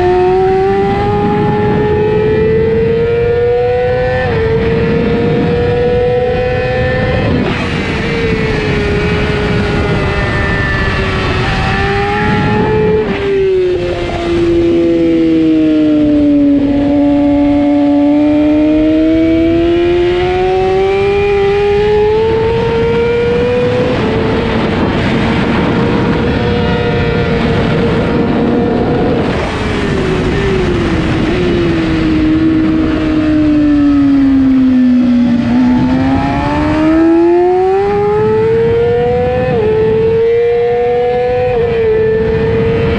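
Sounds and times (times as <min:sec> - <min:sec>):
motorcycle engine revving: 0:00.0 - 0:42.9
wind rush: 0:00.0 - 0:42.9.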